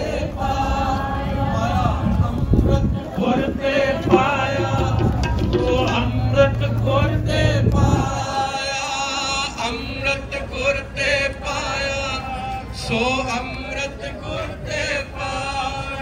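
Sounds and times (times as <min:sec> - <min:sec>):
men singing a hymn: 0:00.0 - 0:16.0.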